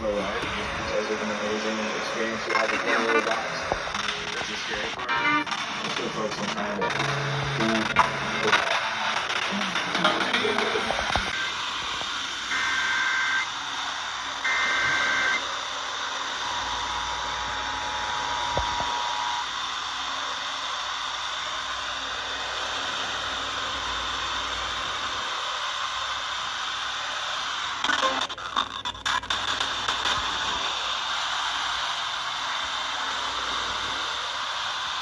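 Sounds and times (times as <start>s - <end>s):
digital data bursts: 0.0s - 35.0s
radio crackles: 0.0s - 35.0s
radio static hiss: 0.0s - 35.0s.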